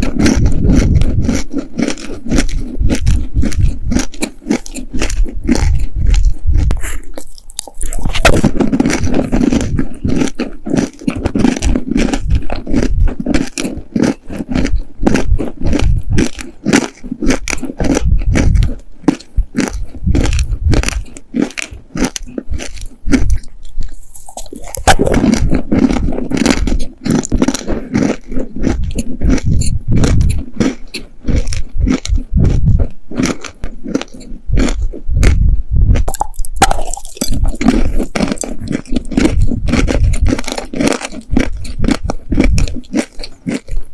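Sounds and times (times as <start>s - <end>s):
chewing crunchy cookies: 0.0s - 43.9s.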